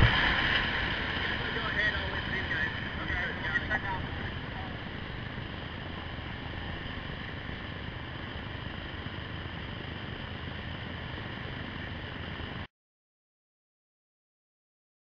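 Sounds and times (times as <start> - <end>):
whitewater rushing down a cascade: 0.0 - 12.6.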